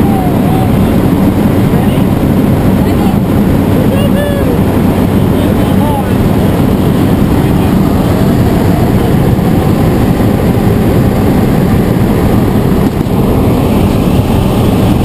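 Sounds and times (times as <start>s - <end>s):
plane engine drone: 0.0s - 15.0s.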